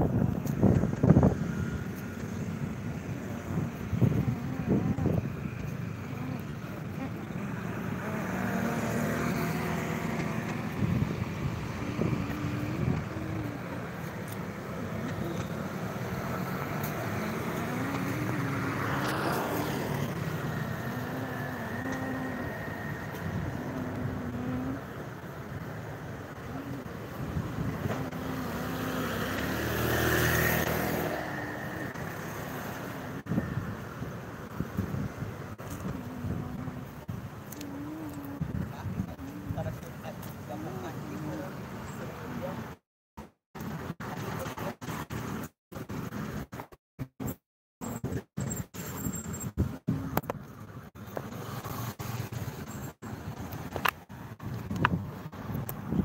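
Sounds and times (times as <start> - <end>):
diesel engine rumble: 0.0 - 56.0
roadside traffic: 0.0 - 56.0.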